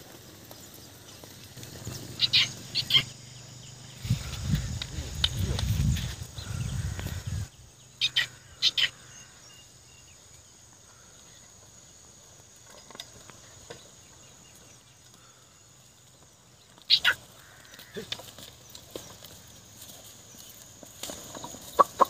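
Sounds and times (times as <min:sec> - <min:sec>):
faint insect drone: 0:00.0 - 0:22.0.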